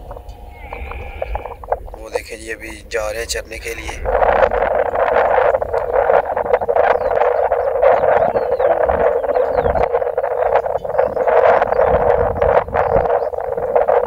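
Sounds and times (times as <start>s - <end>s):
chorus of animal calls: 0.0s - 14.0s.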